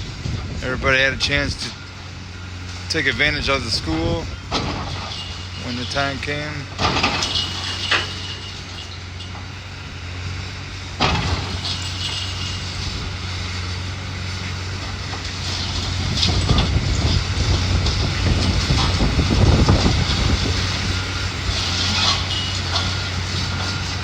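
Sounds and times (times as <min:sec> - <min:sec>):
diesel demolition machine running: 0:00.0 - 0:24.0.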